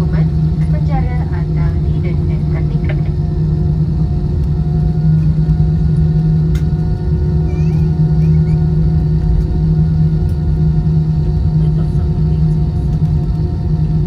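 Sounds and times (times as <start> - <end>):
airplane cabin rumble and hum: 0.0 - 14.0.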